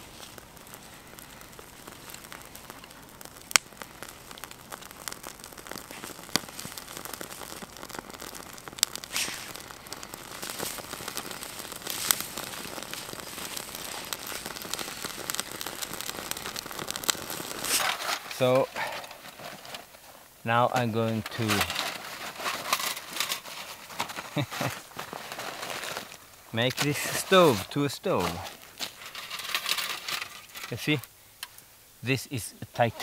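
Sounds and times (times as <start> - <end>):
campfire crackling: 0.0 - 33.0
sharp pops of fire: 0.0 - 33.0.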